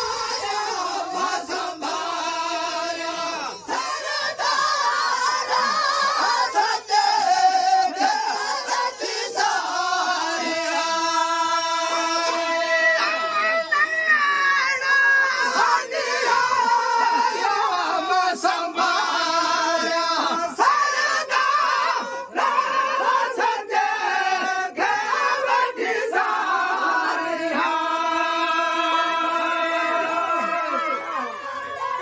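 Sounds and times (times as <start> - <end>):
men singing devotional chant: 0.0 - 32.0.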